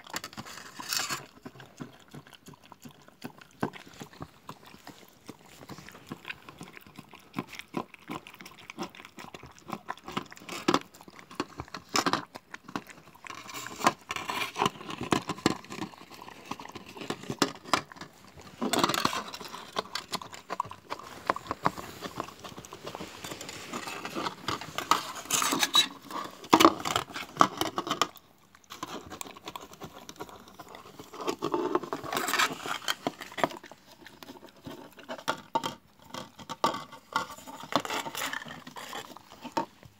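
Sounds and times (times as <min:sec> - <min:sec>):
dog licking and lapping: 0:00.0 - 0:39.9.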